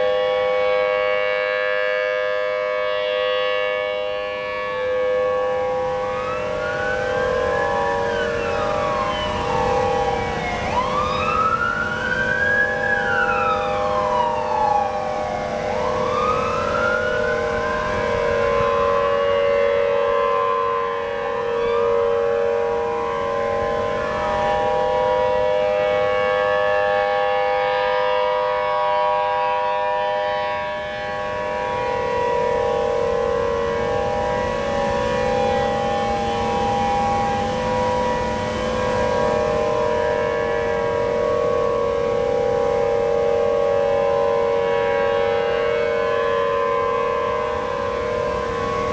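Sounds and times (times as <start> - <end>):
siren wail rising and falling: 0.0 - 48.9
steady siren tone: 0.0 - 48.9.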